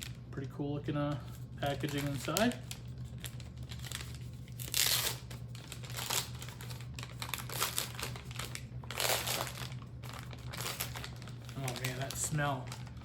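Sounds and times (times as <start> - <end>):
wrapper crinkling and tearing: 1.6 - 13.0.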